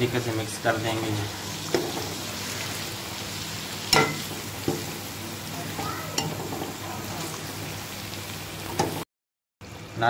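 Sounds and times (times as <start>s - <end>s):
food sizzling in hot fat: 0.0s - 9.0s.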